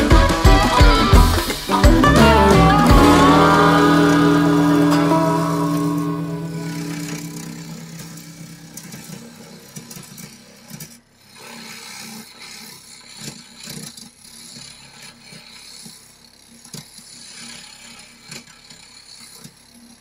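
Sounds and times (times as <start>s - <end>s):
gouge scraping spinning wood: 1.1s - 20.0s.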